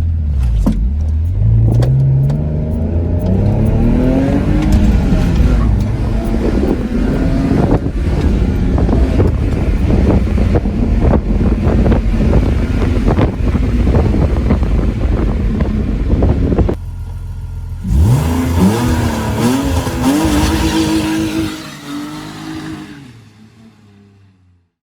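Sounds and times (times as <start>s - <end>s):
car engine revving: 0.0s - 24.2s.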